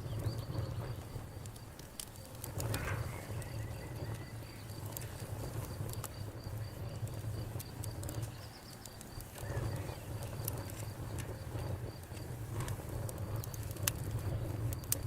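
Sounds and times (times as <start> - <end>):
campfire crackling: 0.0 - 15.0
low rumble of flames: 0.0 - 15.0.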